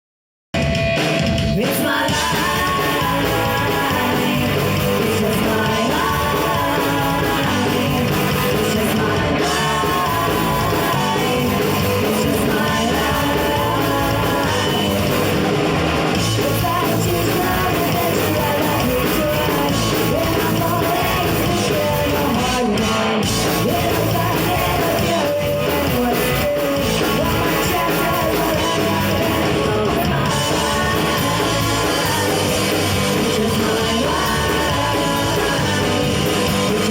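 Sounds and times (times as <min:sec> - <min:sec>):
bass guitar: 0:00.5 - 0:36.9
drums: 0:00.5 - 0:36.9
electric guitars: 0:00.6 - 0:36.9
person singing lead vocal: 0:01.4 - 0:36.9.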